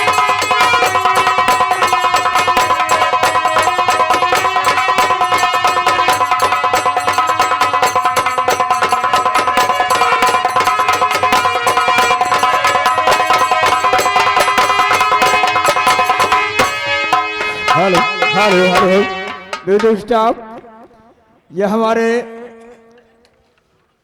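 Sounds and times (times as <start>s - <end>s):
rapid hand-drum strokes: 0.0s - 20.6s
held melodic tones: 0.0s - 21.4s.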